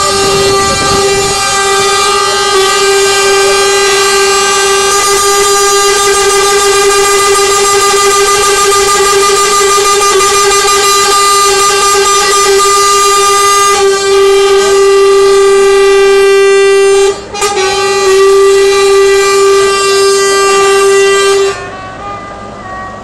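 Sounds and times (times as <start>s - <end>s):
lorry air horn blast: 0.0s - 23.0s.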